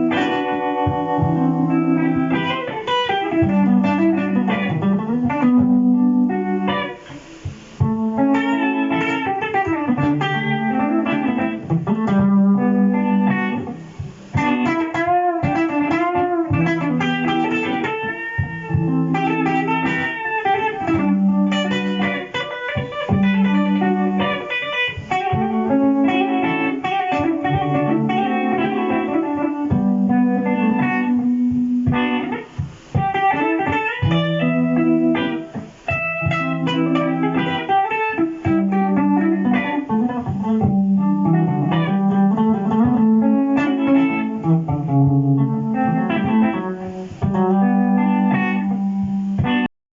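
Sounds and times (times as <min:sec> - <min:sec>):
jazzy electric guitar melody: 0:00.0 - 0:49.7
looped low guitar pattern: 0:00.0 - 0:49.7.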